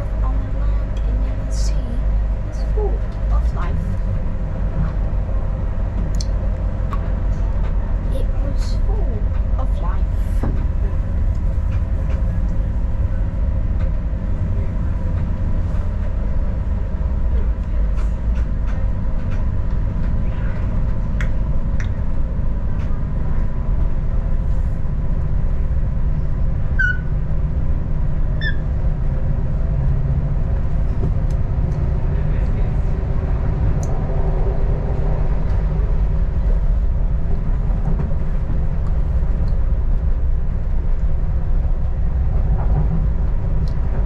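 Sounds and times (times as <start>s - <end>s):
railcar rumble: 0.0s - 44.0s.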